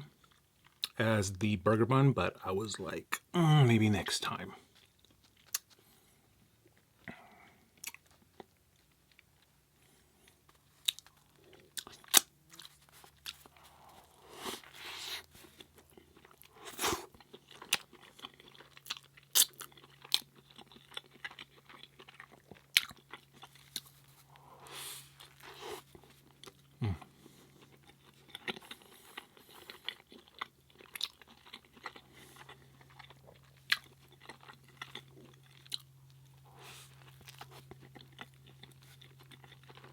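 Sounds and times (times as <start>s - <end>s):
close-miked chewing: 0.0s - 1.1s, 4.0s - 39.9s.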